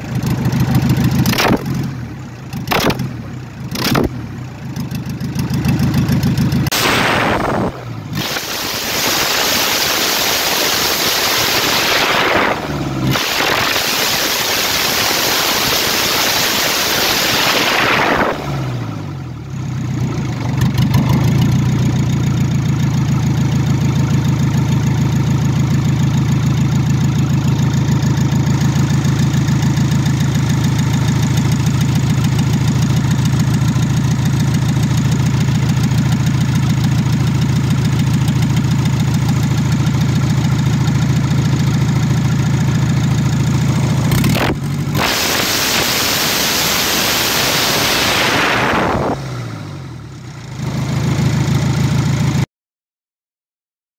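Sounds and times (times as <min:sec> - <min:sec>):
diesel engine revving and idling: 0:00.0 - 0:52.5.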